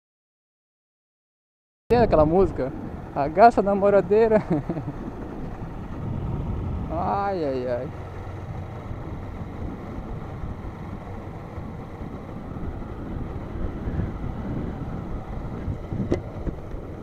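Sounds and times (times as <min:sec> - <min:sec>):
motorcycle engine running: 0:01.9 - 0:17.0
road and wind noise: 0:01.9 - 0:17.0.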